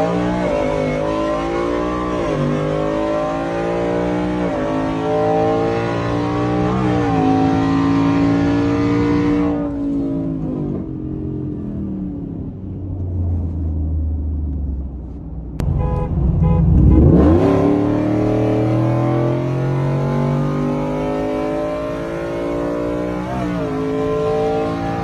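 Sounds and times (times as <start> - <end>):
truck engine accelerating: 0.0 - 25.0.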